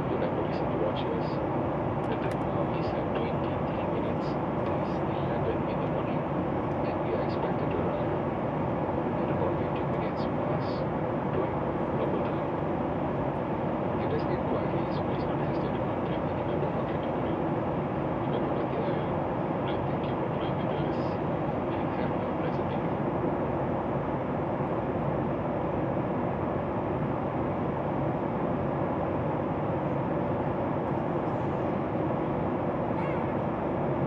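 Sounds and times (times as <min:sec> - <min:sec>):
air rushing along fuselage: 0:00.0 - 0:34.0
airplane cabin engine noise: 0:00.0 - 0:34.0.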